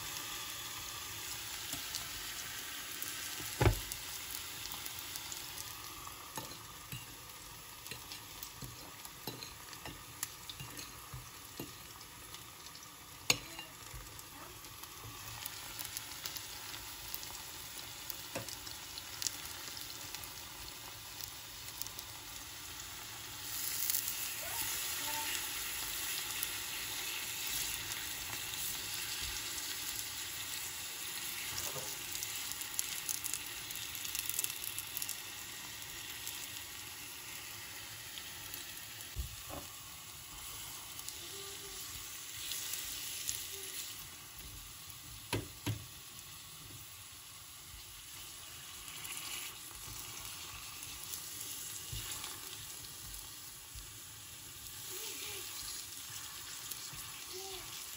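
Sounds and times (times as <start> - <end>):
bananas sizzling in oil: 0.0 - 57.9.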